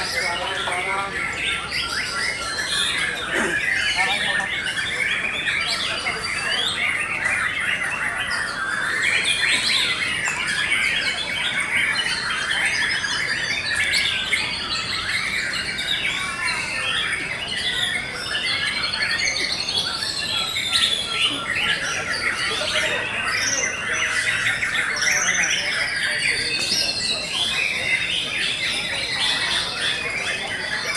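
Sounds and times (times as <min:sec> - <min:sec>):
birds singing: 0:00.0 - 0:30.9.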